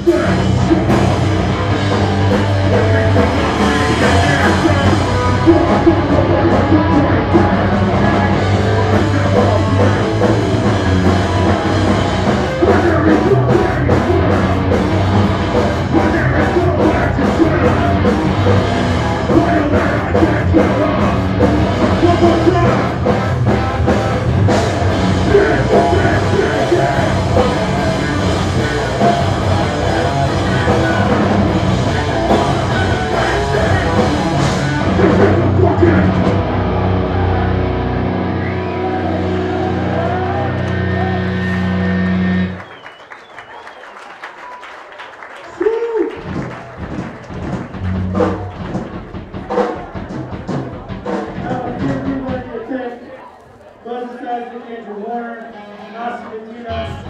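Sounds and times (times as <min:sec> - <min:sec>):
singer's vocals: 0:00.0 - 0:41.5, 0:50.7 - 0:57.0
live punk band: 0:00.0 - 0:53.0.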